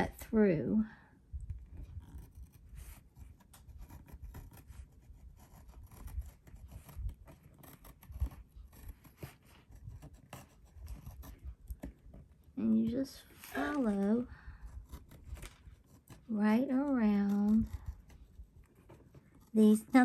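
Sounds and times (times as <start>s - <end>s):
craft knife cutting paper: 1.6s - 20.0s.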